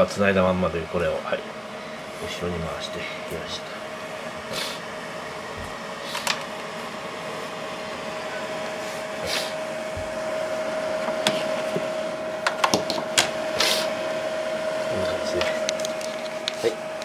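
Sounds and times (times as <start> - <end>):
cooling fans hissing with hum: 0.0 - 17.0.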